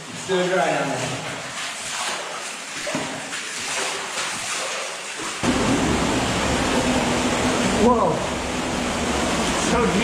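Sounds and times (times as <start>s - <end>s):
cave stream rushing: 0.0s - 10.0s.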